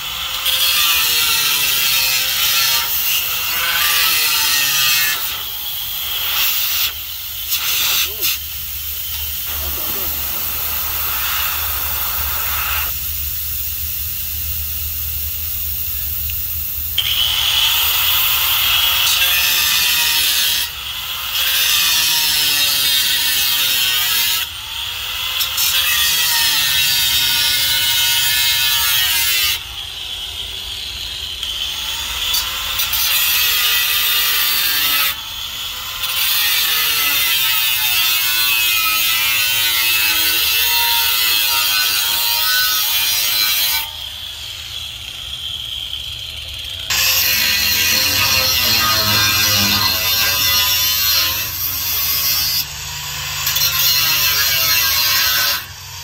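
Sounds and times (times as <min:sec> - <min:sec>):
angle grinder grinding steel: 0:00.0 - 0:13.0, 0:17.0 - 0:56.0.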